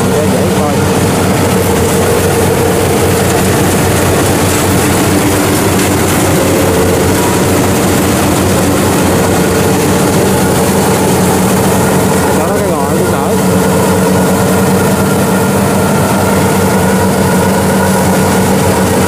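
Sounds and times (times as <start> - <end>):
combine harvester engine and threshing: 0.0 - 19.0.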